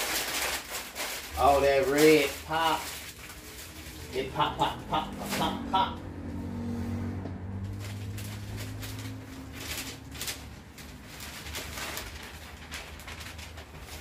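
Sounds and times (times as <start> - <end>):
paper and fabric rustling: 0.0 - 5.7, 7.6 - 14.0.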